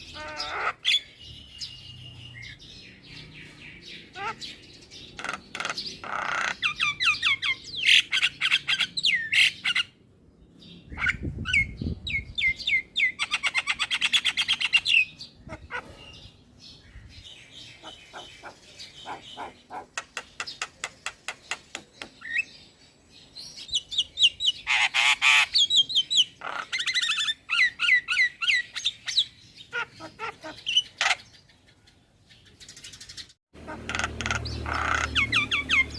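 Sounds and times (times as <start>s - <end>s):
myna bird singing: 0.0s - 35.9s.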